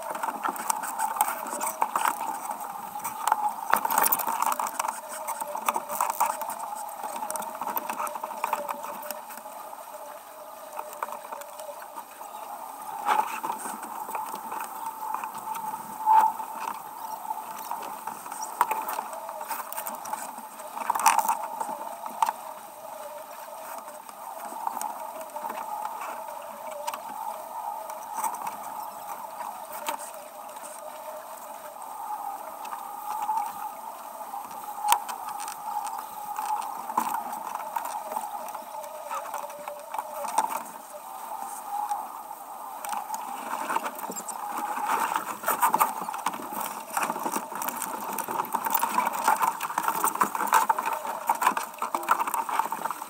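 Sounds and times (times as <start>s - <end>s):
water rushing along hull: 0.0s - 53.0s
wind: 0.0s - 53.0s.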